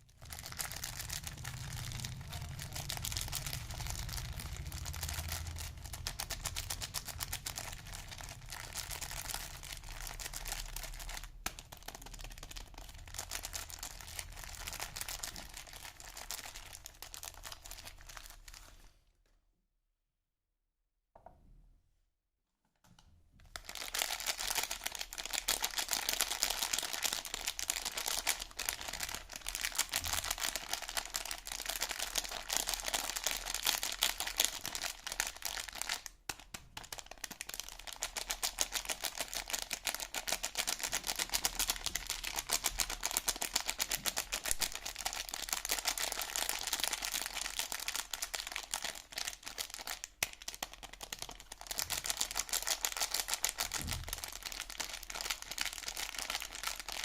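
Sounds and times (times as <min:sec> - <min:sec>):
crinkling wrapper: 0:00.0 - 0:19.0, 0:23.4 - 0:57.0.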